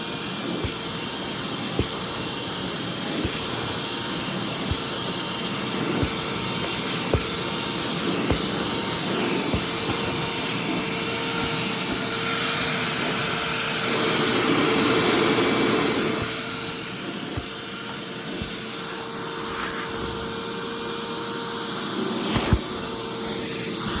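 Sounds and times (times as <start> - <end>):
carpet cleaner motor whining: 0.0 - 24.0.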